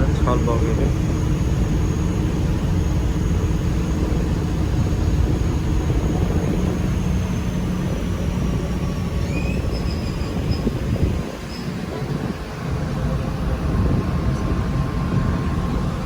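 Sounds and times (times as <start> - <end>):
faint high whine: 0.0 - 16.0
ship engine drone: 0.0 - 16.0
wind: 0.0 - 16.0.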